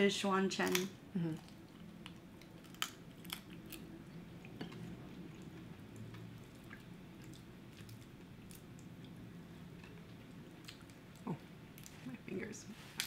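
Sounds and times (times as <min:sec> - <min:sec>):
low steady hum: 0:00.0 - 0:13.0
quiet chewing: 0:00.7 - 0:12.1.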